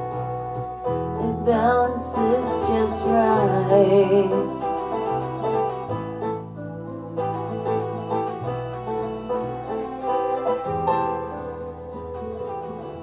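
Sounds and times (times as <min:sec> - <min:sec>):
plucked string accompaniment: 0:00.0 - 0:13.0.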